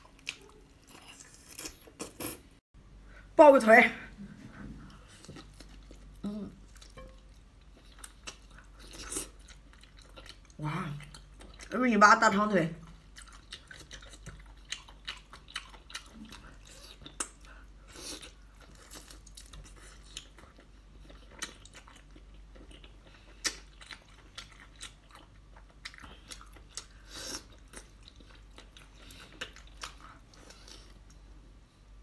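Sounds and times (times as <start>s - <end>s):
person chewing: 0.0s - 2.6s, 4.6s - 11.7s, 12.8s - 31.3s.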